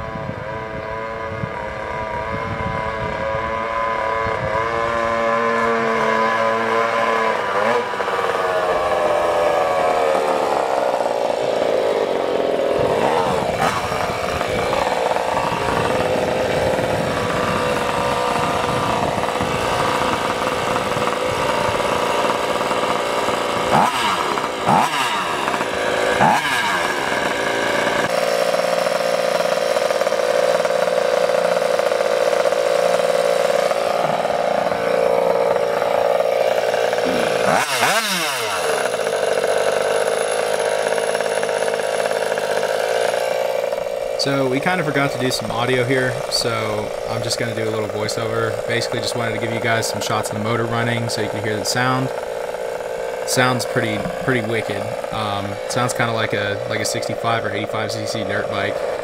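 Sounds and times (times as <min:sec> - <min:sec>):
scooter engine revving: 0:00.0 - 0:59.0.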